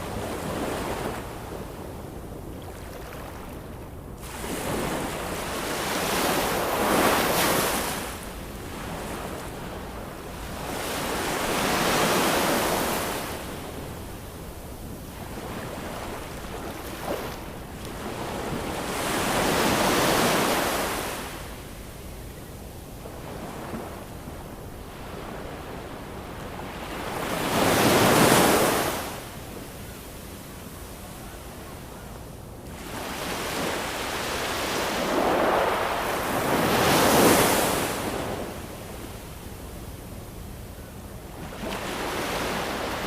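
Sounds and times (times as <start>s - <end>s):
ocean waves breaking on shore: 0.0s - 21.8s, 23.0s - 30.0s, 32.7s - 39.2s, 41.3s - 43.0s.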